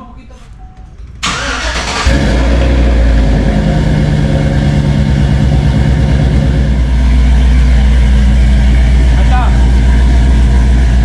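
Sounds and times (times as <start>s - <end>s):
pickup truck engine starting and idling: 1.1s - 11.0s.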